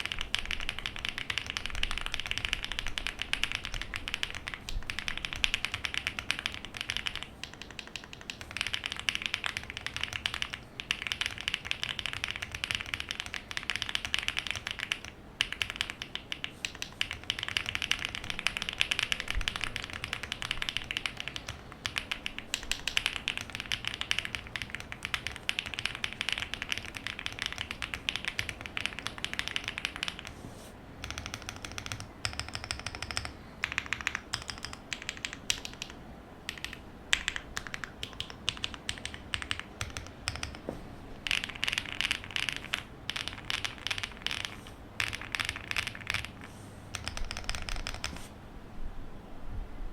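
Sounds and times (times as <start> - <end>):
mechanical keyboard typing: 0.0 - 30.4, 31.0 - 48.3.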